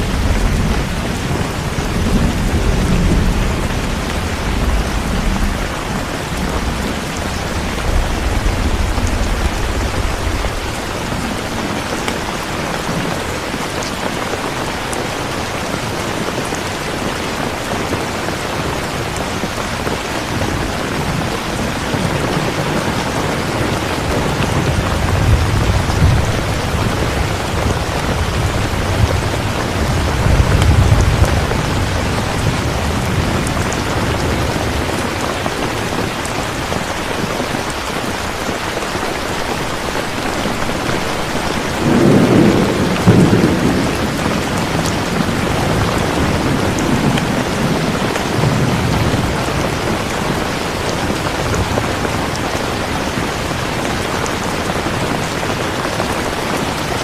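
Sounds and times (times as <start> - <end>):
thunder rumbling: 0.0 - 56.6
steady rain falling: 0.0 - 57.0.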